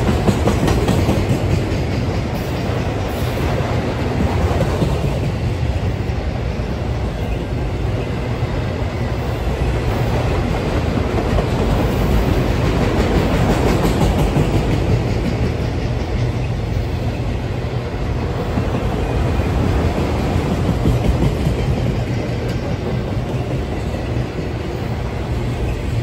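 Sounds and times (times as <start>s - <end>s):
wheels clacking over rail joints: 0.0s - 5.4s, 9.7s - 17.1s, 17.8s - 26.0s
steel wheels rumbling on rails: 0.0s - 26.0s.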